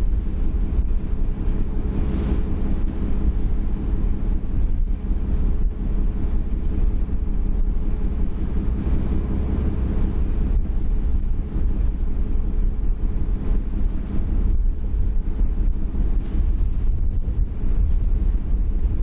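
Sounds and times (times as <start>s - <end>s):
ferry engine humming: 0.0s - 19.0s
wind noise on microphone: 0.0s - 19.0s.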